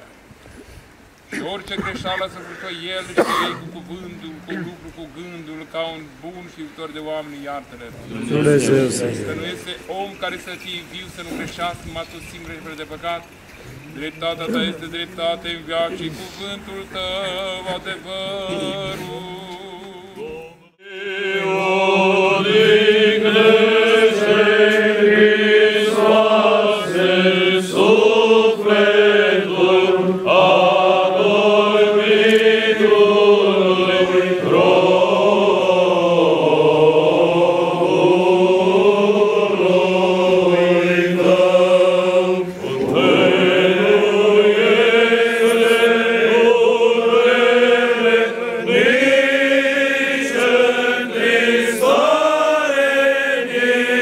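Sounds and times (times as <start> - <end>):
male choir chanting: 7.8 - 12.4, 13.8 - 54.0.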